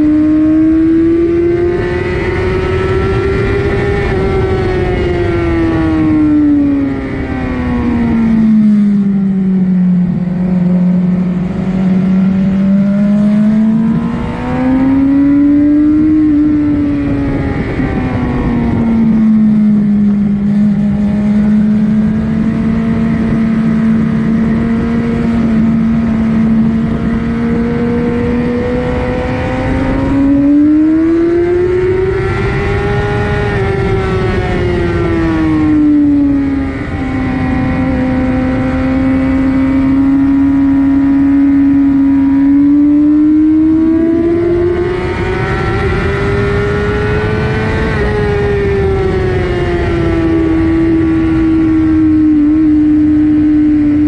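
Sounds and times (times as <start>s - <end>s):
motorcycle engine at speed: 0.0s - 54.0s
wind noise: 0.0s - 54.0s.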